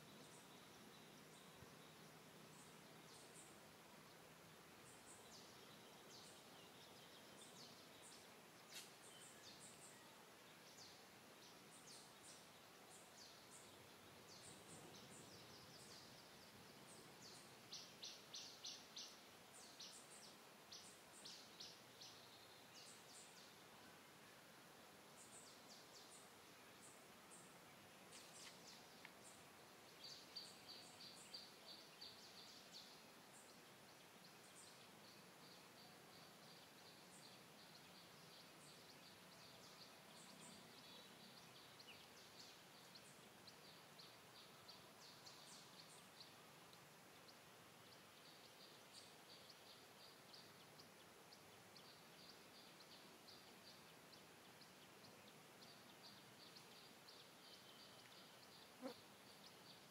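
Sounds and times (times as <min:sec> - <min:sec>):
soft background hiss: 0:00.0 - 0:59.9.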